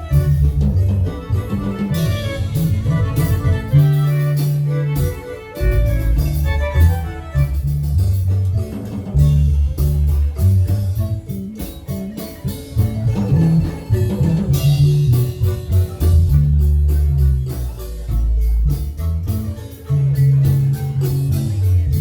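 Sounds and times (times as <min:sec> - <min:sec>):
drum kit beat: 0:00.0 - 0:22.0
electric bass: 0:00.0 - 0:22.0
marimba ensemble: 0:00.0 - 0:22.0.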